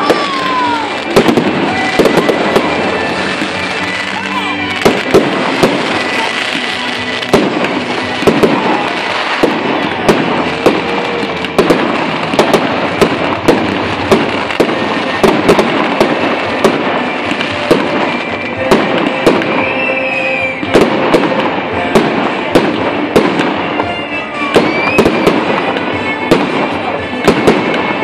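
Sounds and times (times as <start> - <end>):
fireworks bangs: 0.0 - 28.0
fireworks crackling hiss: 0.0 - 28.0.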